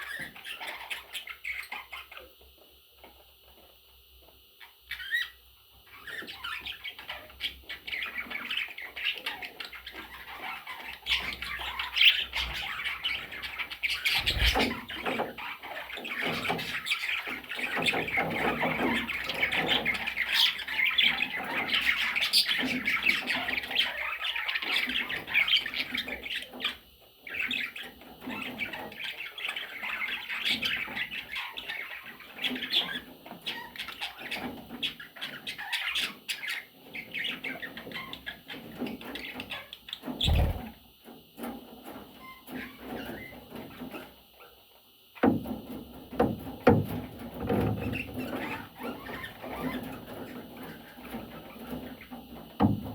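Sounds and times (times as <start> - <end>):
budgerigars chattering and squawking: 0.0 - 2.4, 4.6 - 40.8, 46.2 - 52.5.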